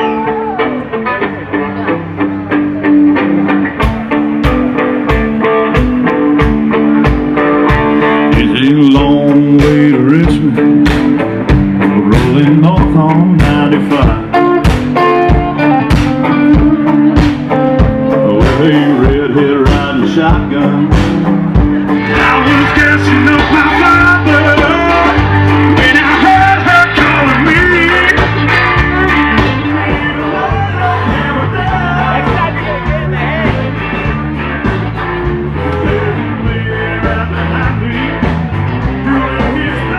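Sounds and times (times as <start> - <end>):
person singing: 0.0 - 1.2, 6.4 - 39.9
blues-rock guitar and drums: 0.0 - 39.9.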